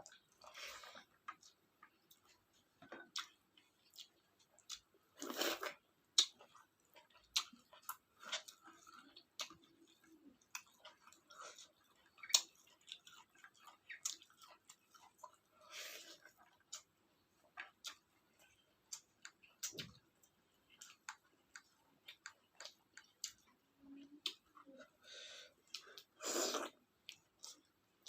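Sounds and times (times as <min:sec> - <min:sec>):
person chewing: 0:00.0 - 0:28.0.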